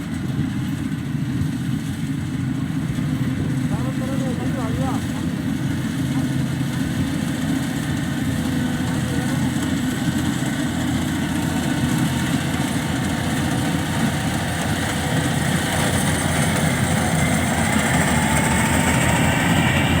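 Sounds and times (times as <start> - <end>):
harvesting machine engine running: 0.0 - 20.0.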